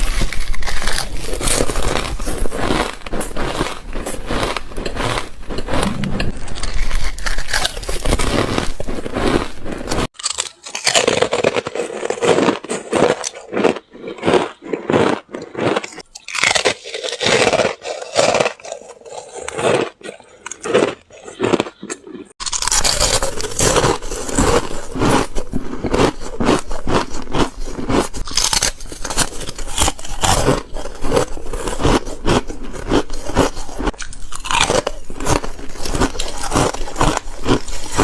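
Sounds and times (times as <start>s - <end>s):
ice crunched between teeth: 0.0s - 38.0s.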